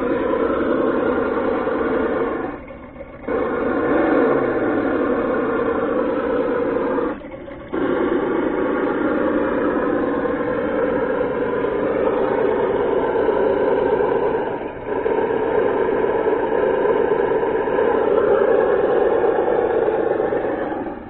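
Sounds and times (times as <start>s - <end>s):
simulated engine drone: 0.0s - 21.0s.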